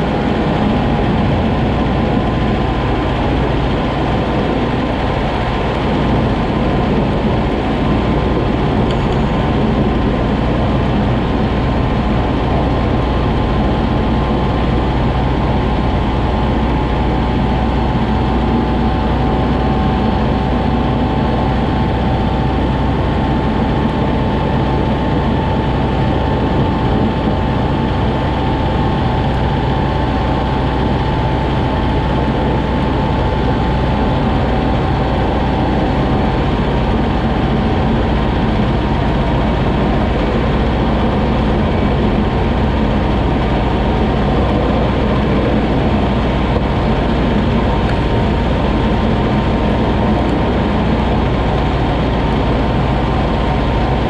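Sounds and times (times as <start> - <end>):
steady whine: 0.0 - 54.0
tractor diesel engine running: 0.0 - 54.0.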